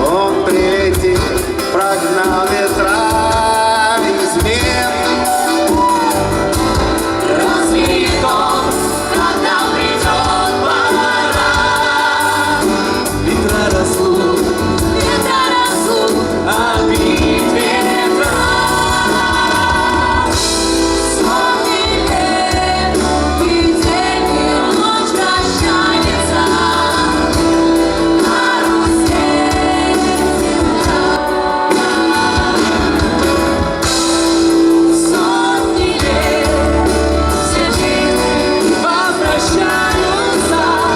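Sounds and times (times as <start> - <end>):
live band playing: 0.0 - 40.9
singers singing together: 0.0 - 40.9.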